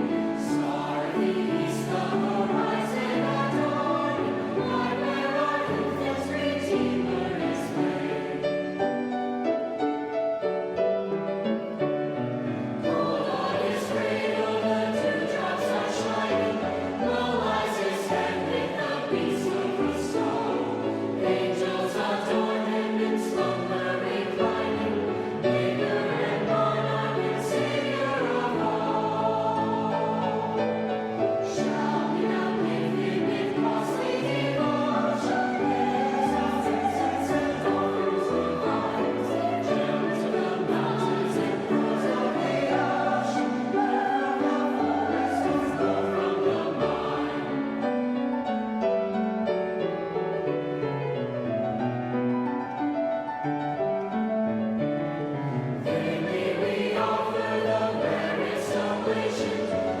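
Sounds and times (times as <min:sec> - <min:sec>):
youth choir singing: 0:00.0 - 0:09.1, 0:12.7 - 0:48.1, 0:55.8 - 1:00.0.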